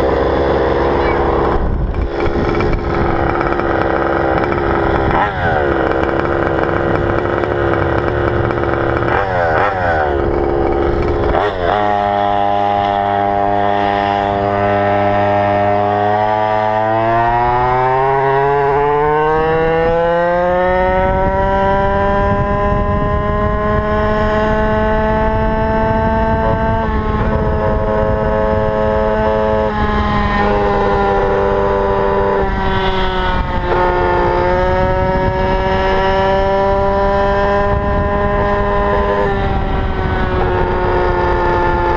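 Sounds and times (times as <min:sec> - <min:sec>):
two-stroke scooter engine revving: 0:00.0 - 0:41.9.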